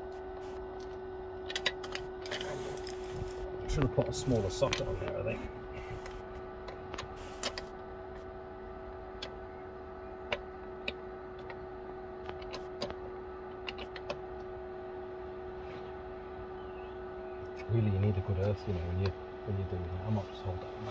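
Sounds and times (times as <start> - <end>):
steady electrical hum: 0.0 - 20.9.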